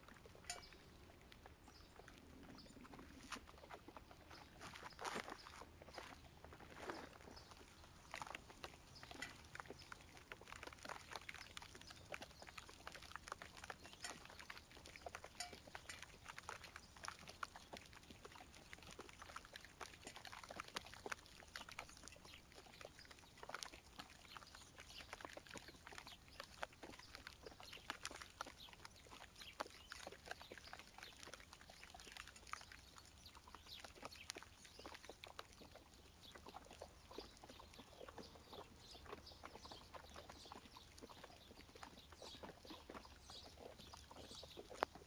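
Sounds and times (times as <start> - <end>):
rain pattering on dead leaves: 0.0 - 45.0.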